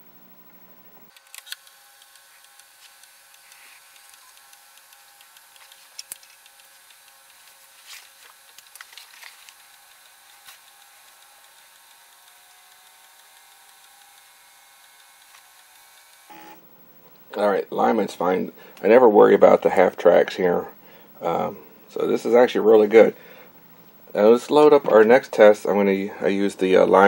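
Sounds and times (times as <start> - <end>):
floppy drive whine and hiss: 0.0 - 27.0.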